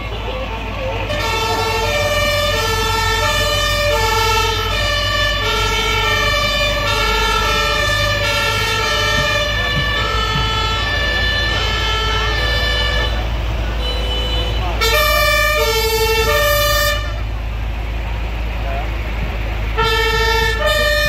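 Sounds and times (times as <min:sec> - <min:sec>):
fire engine two-tone sirens: 0:00.0 - 0:21.0
low truck engine rumble: 0:00.0 - 0:21.0.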